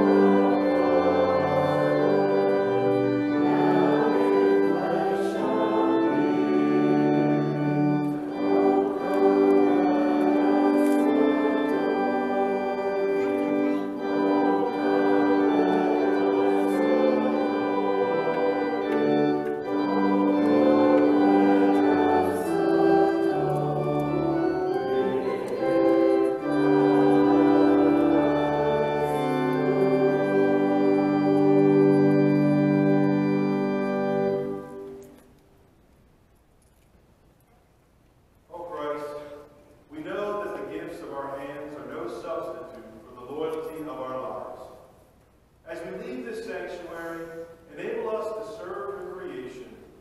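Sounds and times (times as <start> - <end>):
church organ playing a hymn: 0.0 - 35.7, 38.5 - 45.0, 45.7 - 50.0.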